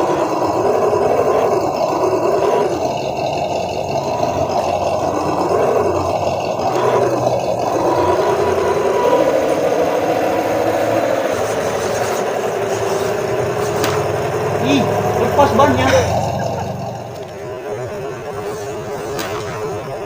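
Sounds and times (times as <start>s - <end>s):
rc truck electric motor whining: 0.0s - 20.0s.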